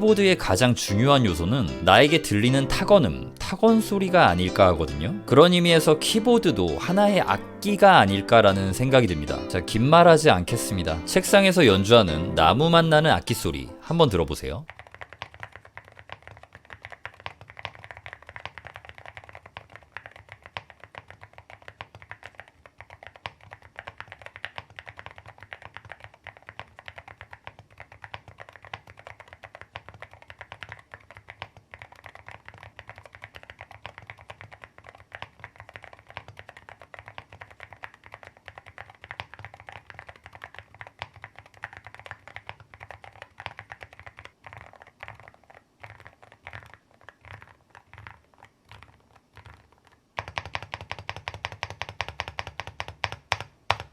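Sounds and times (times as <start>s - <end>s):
fast typing on mechanical keyboard: 0.0s - 53.9s.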